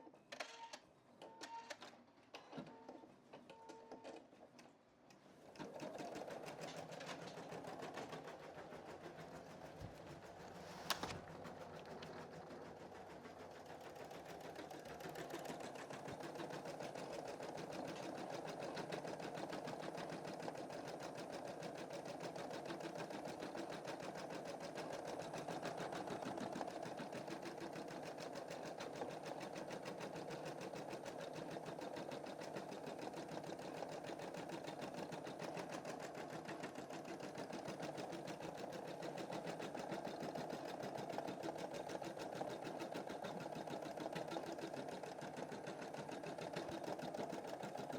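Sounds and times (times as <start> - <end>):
embroidery machine stitching: 5.4 - 9.7, 10.4 - 47.9.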